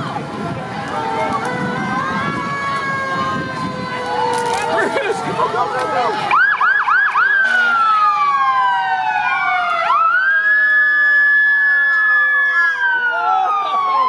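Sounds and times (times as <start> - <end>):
emergency vehicle siren whooping: 0.0 - 14.0
lower siren falling slowly: 0.0 - 14.0.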